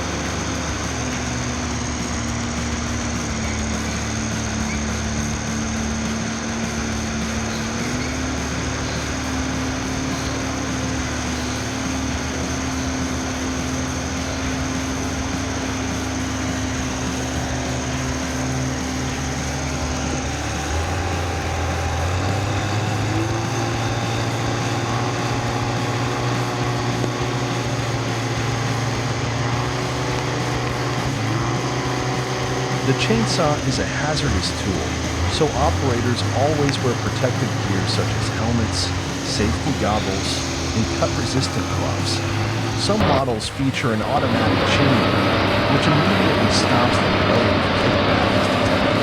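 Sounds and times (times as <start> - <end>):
chainsaw engine running: 0.0 - 49.0
steady engine note: 0.0 - 49.0.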